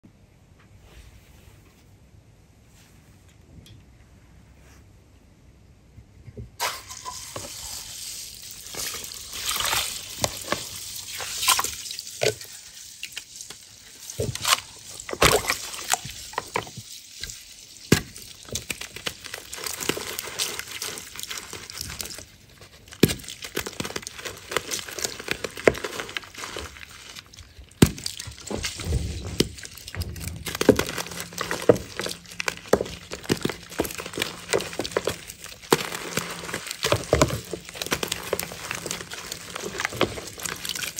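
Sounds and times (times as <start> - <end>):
wet chalk crunching and crackling: 6.9 - 40.9.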